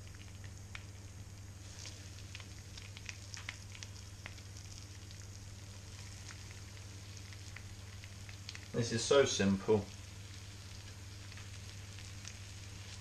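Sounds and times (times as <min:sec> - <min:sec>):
crackles and pops: 0:00.0 - 0:13.0
meat sizzling in frying pan: 0:00.0 - 0:13.0.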